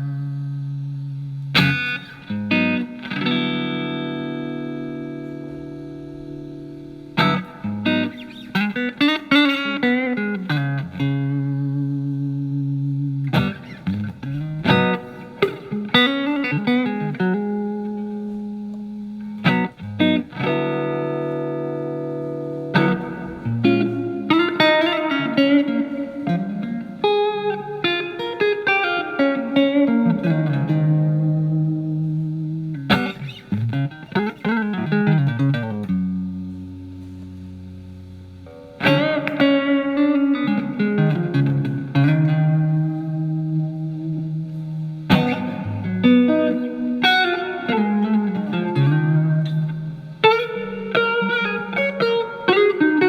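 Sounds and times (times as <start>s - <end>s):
clean electric guitar: 0.0s - 53.0s.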